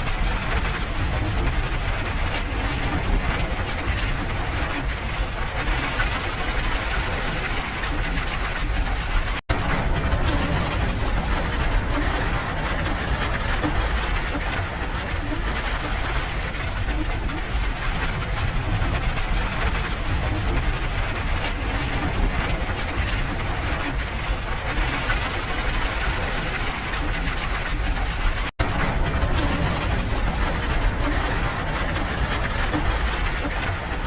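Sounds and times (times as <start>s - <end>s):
constant low rumble: 0.0s - 34.0s
steady rain: 0.0s - 34.0s.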